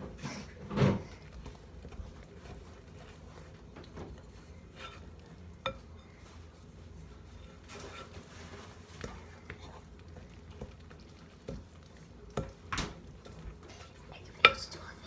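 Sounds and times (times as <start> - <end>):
wooden spoon scraping bowl: 0.0 - 15.0.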